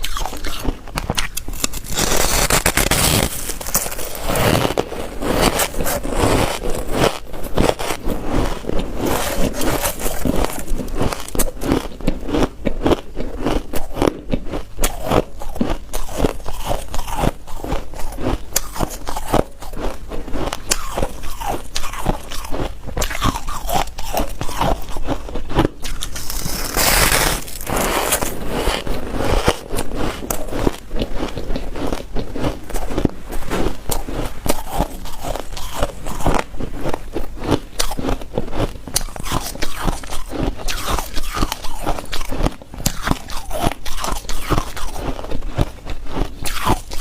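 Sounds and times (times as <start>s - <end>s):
person crunching ice cubes: 0.0s - 47.0s.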